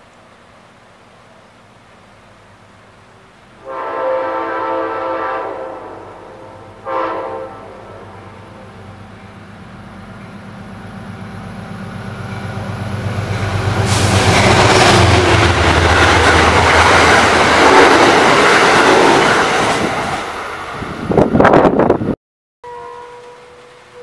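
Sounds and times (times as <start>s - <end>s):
passenger train passing: 0.0s - 24.0s.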